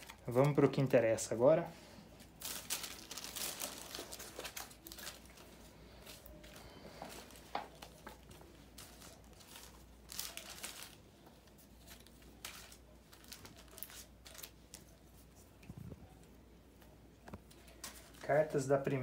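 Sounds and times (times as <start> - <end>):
cards and plastic rustling: 0.0 - 1.6, 2.2 - 16.3, 17.3 - 19.0.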